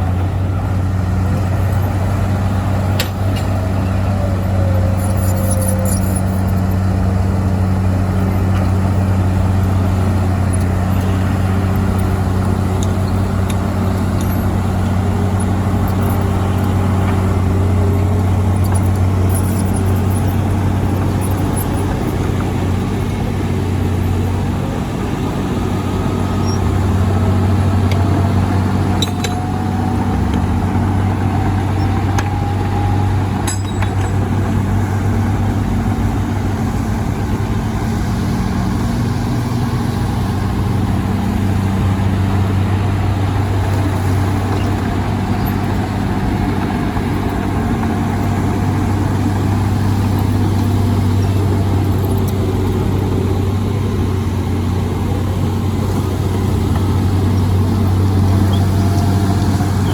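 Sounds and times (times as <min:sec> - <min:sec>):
deep diesel engine drone: 0:00.0 - 0:59.9.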